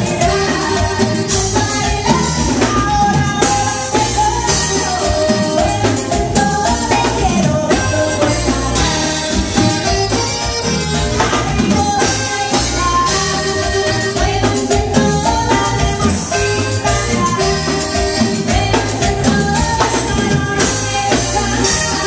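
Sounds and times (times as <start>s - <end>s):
button accordion: 0.0s - 22.0s
drums: 0.0s - 22.0s
woman singing: 0.0s - 22.0s.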